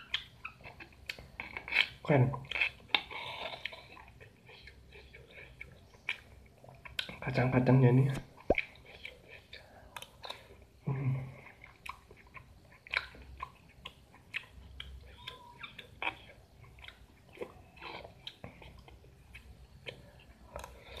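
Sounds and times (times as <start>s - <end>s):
person chewing crunchy fruit: 0.0s - 7.2s, 8.3s - 21.0s.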